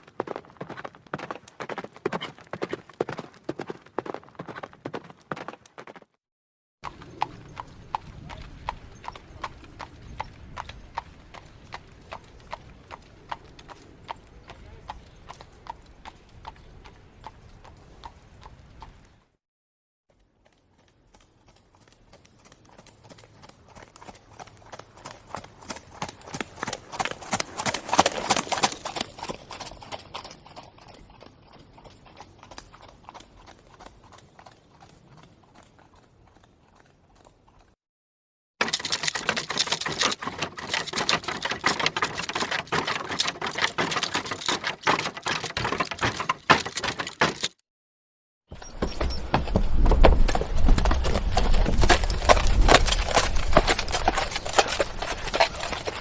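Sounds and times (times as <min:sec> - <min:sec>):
horse hooves clip-clopping: 0:00.0 - 0:06.1, 0:06.8 - 0:19.2, 0:20.1 - 0:37.8, 0:38.6 - 0:47.6, 0:48.5 - 0:56.0.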